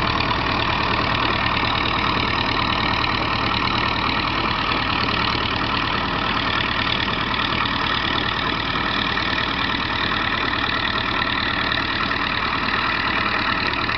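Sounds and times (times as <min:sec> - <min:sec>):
tractor engine running under load: 0:00.0 - 0:13.9.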